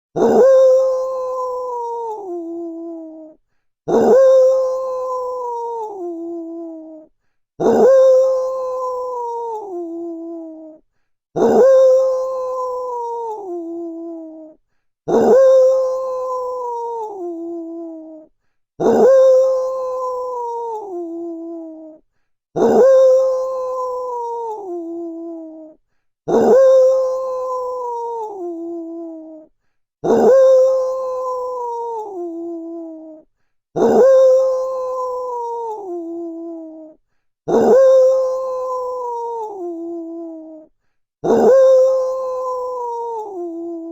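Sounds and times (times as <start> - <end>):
wolf whining moan: 0.2 - 10.8, 11.4 - 22.0, 22.6 - 33.2, 33.8 - 43.9.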